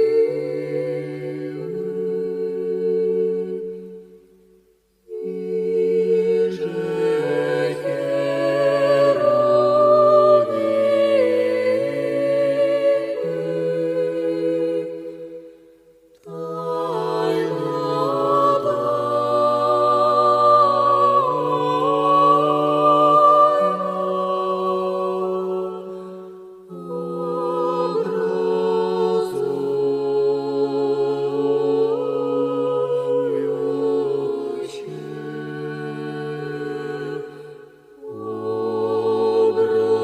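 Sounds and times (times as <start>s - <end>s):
a cappella voices singing chords: 0.0s - 40.0s.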